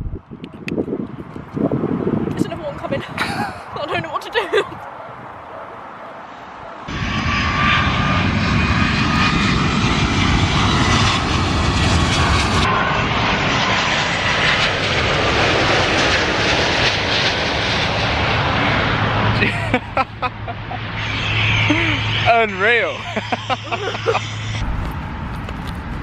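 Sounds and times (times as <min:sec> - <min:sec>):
jet airliner passing overhead: 0:00.0 - 0:26.0.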